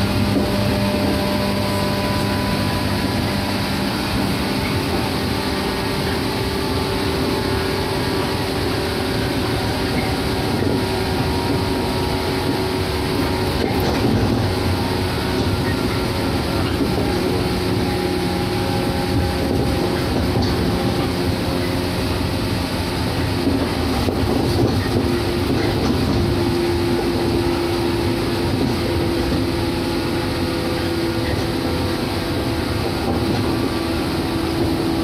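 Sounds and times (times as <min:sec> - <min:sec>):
running gear hum: 0:00.0 - 0:35.0
train wheels rumbling on rail: 0:00.0 - 0:35.0.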